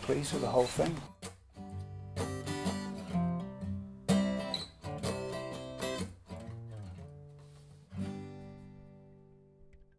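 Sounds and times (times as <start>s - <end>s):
acoustic guitar strumming: 0.0s - 9.9s.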